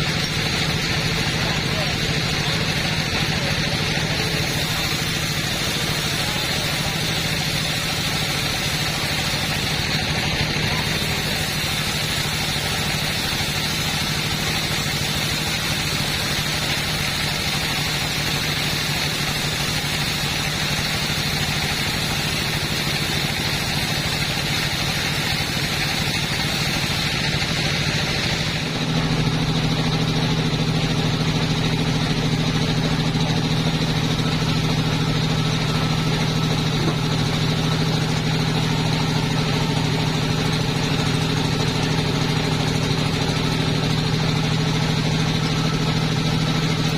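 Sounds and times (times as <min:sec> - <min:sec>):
chainsaw engine at high revs: 0:00.0 - 0:46.9
hiss: 0:00.0 - 0:46.9.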